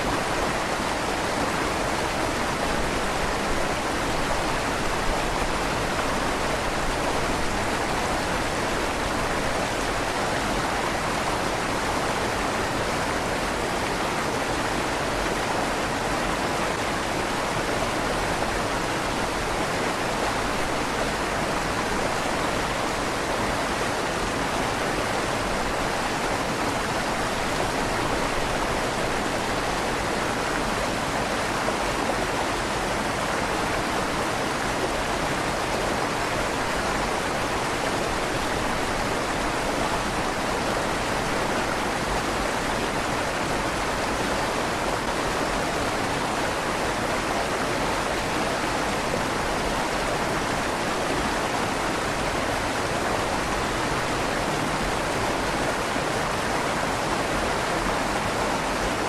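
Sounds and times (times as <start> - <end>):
river water rushing with echo: 0.0 - 59.0.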